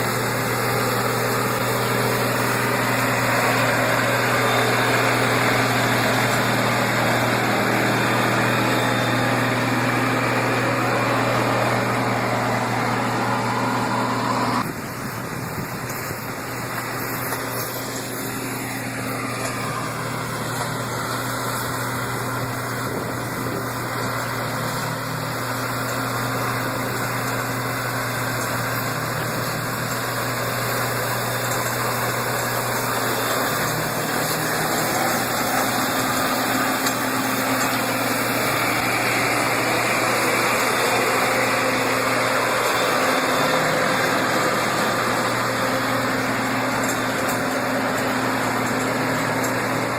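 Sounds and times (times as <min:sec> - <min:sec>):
construction machinery engines: 0:00.0 - 0:49.9
falling whine: 0:00.0 - 0:49.9.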